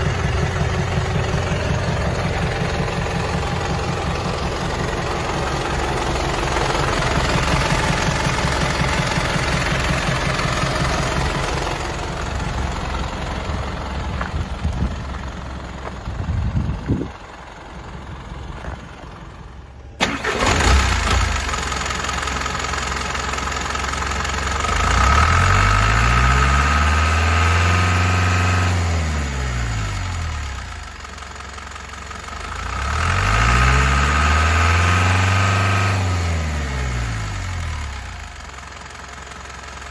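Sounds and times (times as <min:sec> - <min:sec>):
diesel truck engine idling and revving: 0:00.0 - 0:39.9.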